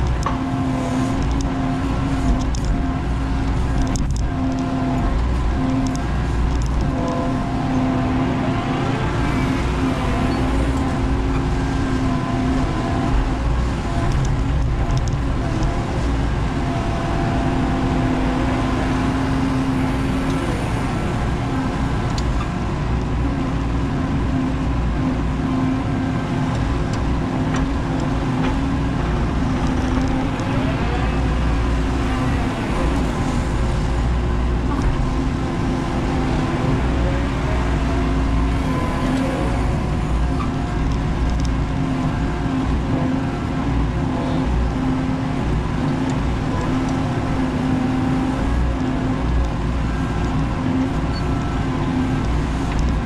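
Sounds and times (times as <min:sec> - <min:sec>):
excavator engine and hydraulics: 0:00.0 - 0:53.0.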